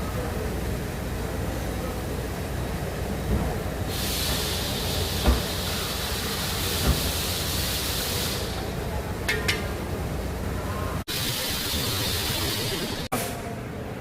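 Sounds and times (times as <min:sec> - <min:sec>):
low workshop rumble: 0:00.0 - 0:14.0.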